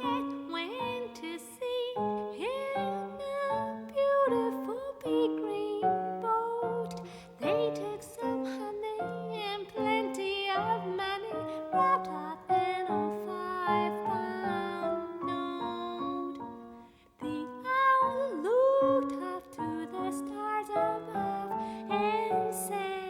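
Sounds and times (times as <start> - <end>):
piano accompaniment: 0.0 - 23.0
woman singing: 0.0 - 23.0.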